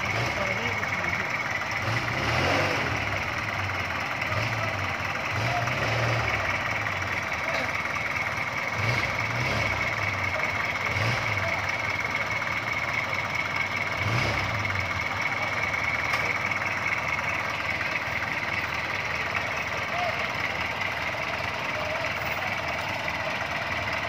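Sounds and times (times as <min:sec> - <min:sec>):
jeep engine idling: 0:00.0 - 0:24.0.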